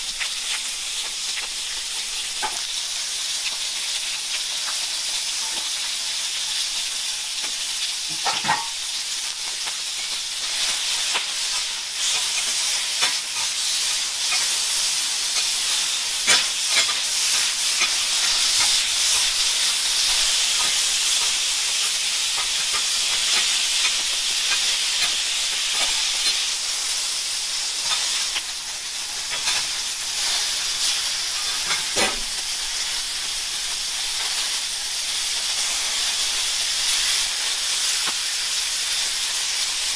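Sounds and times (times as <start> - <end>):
pork sizzling on a griddle: 0.0 - 39.9.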